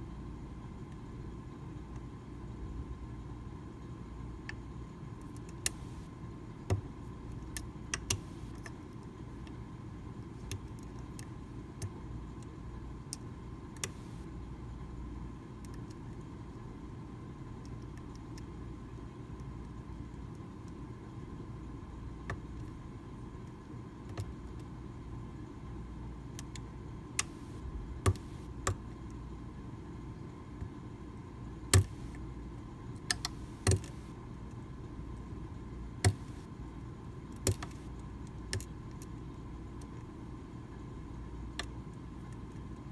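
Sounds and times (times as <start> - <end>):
steady low hiss: 0.0 - 42.9.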